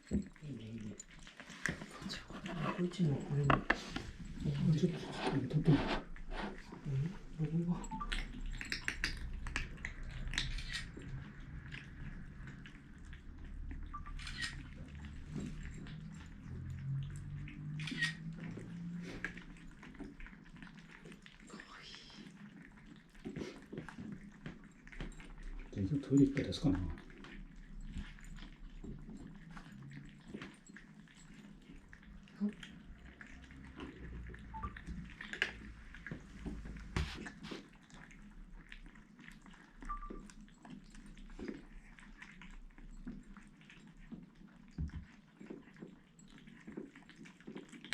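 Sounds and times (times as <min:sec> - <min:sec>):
kittens chewing: 0:00.0 - 0:47.9.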